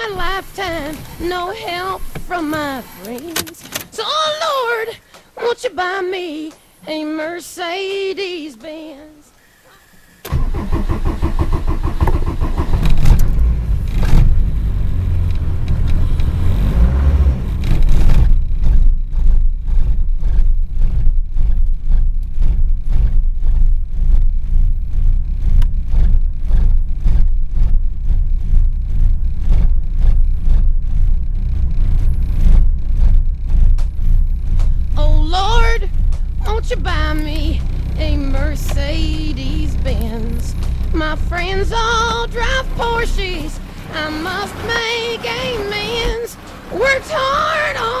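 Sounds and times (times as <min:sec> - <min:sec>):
diesel engine starting and idling: 0:00.0 - 0:48.0.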